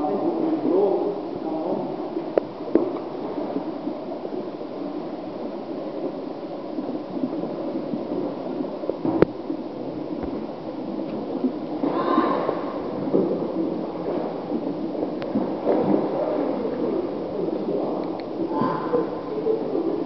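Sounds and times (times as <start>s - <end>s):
water washing in pool hall: 0.0s - 20.0s.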